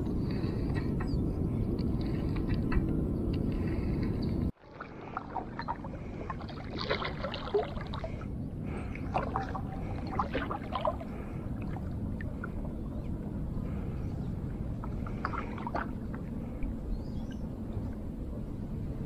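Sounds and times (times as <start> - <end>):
low rumble: 0.0 - 19.0
water gurgling and lapping: 0.0 - 19.0.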